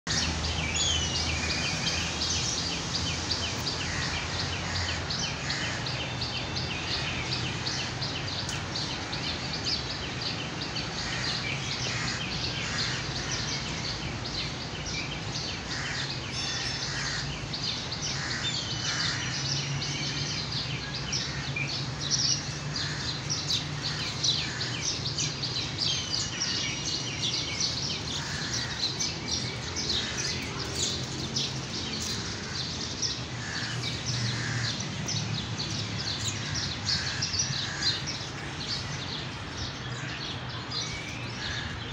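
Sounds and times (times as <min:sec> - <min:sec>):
small birds chirping: 0:00.1 - 0:41.9.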